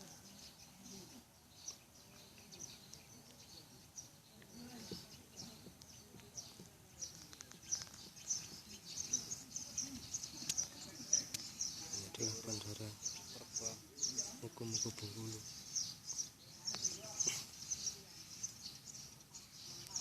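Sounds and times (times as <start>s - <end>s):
faint distant voices: 0.0s - 20.0s
small birds chirping: 0.0s - 20.0s.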